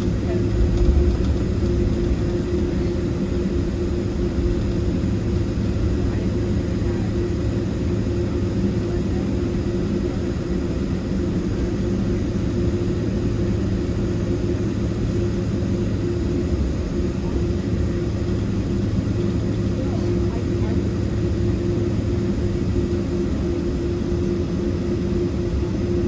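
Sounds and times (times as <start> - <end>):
jet engines droning: 0.0 - 26.0.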